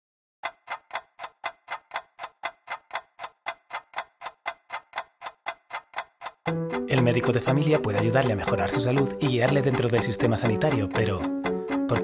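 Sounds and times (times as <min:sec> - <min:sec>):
clock ticking: 0:00.4 - 0:12.0.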